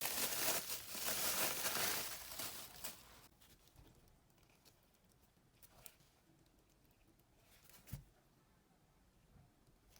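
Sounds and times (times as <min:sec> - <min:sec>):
crinkling rustling: 0:00.0 - 0:08.0.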